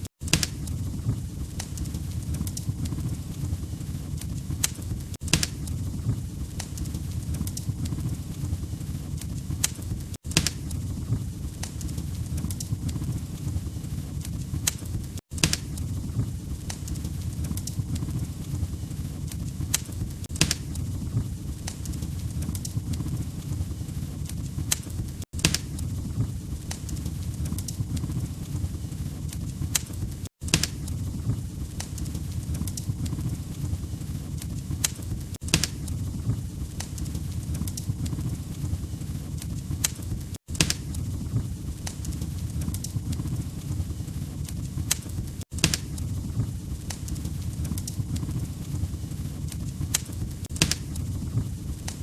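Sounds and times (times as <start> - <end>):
log fire crackling: 0.0 - 52.0.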